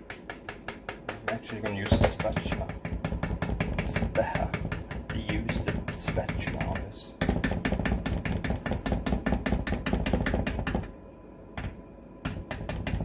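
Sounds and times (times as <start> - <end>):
whisk beating batter in bowl: 0.0 - 10.8.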